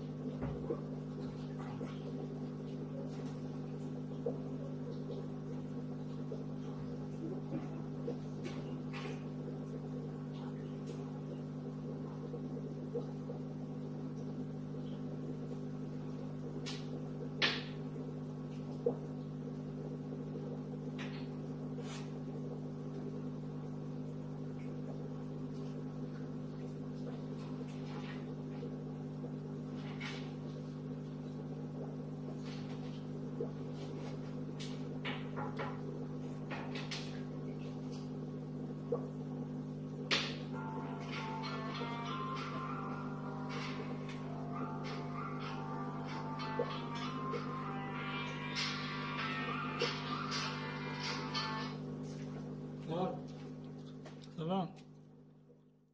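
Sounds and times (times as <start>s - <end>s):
aquarium pump humming: 0.0s - 55.9s.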